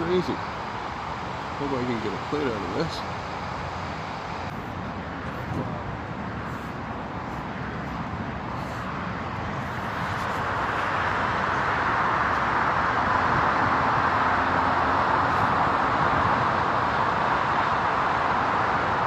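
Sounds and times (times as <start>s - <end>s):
road traffic hiss: 0.0s - 19.0s.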